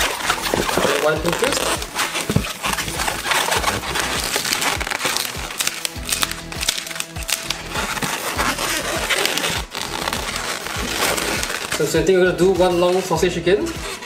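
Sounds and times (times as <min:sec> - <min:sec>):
rubber balloon squeaking: 0:00.0 - 0:14.0.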